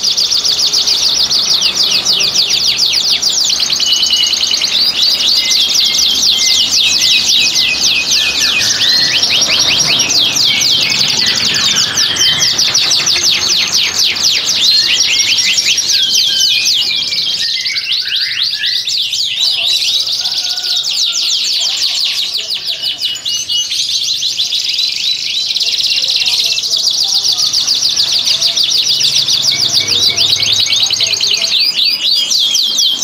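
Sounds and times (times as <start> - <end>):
canary song rolling trills: 0.0 - 33.0.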